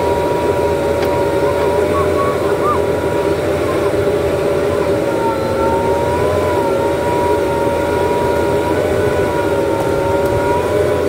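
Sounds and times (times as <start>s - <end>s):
diesel engine running: 0.0s - 11.0s
high steady whine: 0.0s - 11.0s.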